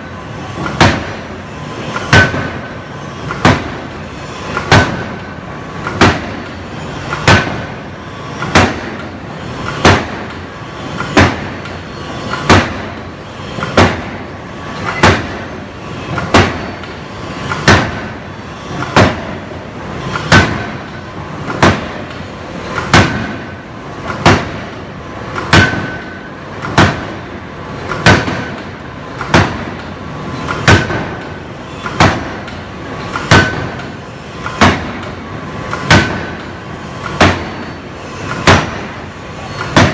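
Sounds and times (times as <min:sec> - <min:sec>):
forging hammer blows with metallic ring: 0:00.0 - 0:39.9.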